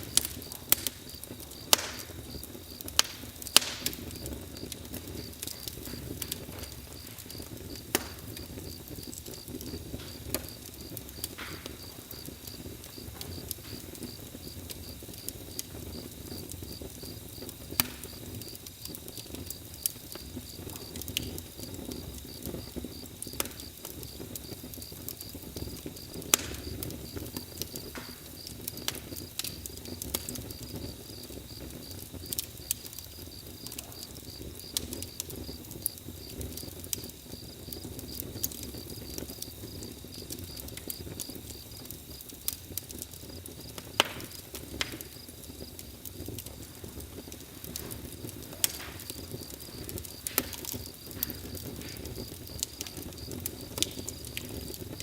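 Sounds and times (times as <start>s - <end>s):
campfire crackling and popping: 0.0s - 55.0s
cricket chirping: 0.0s - 55.0s.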